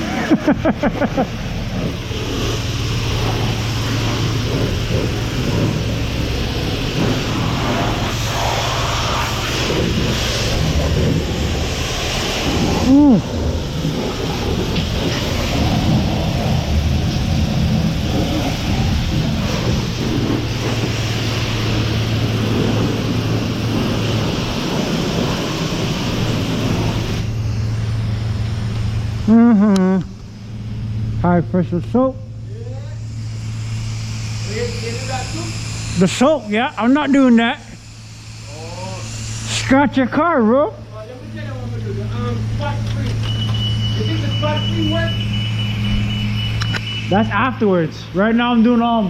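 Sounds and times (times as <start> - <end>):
high-pressure water spray hissing: 0.0 - 49.0
pump humming: 0.0 - 49.0.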